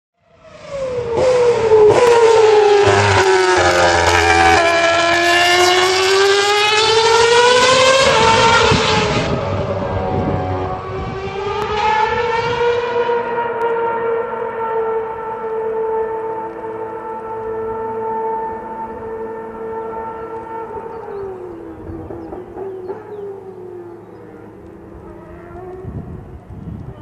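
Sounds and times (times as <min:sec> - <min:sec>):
racing car engine screaming: 0:00.4 - 0:26.3.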